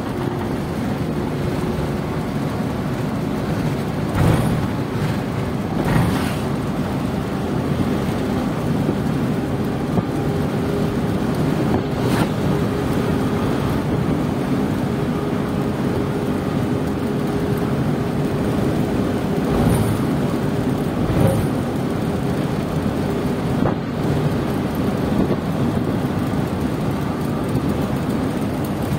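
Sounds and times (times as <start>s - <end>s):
diesel engine running: 0.0s - 28.9s
road and wind noise: 0.0s - 28.9s.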